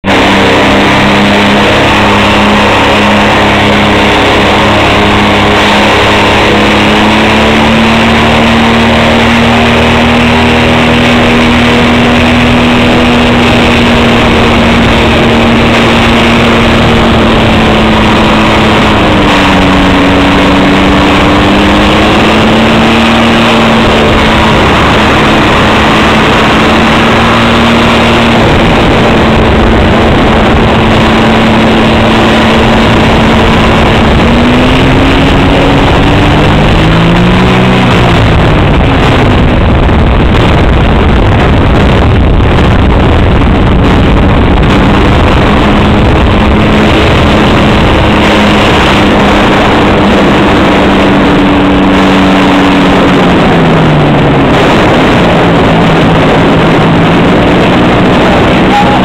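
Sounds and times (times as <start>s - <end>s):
engine and propeller running: 0.0s - 59.0s.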